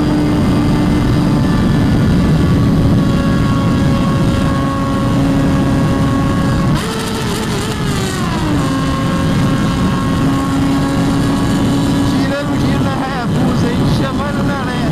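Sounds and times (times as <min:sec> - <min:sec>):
motorcycle engine at high revs: 0:00.0 - 0:14.9
wind noise: 0:00.0 - 0:14.9.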